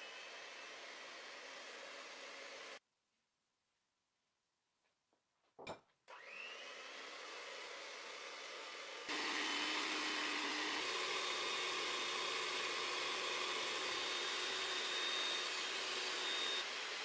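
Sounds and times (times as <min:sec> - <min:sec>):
electric hand mixer whirring: 0:00.0 - 0:02.8, 0:06.1 - 0:17.0.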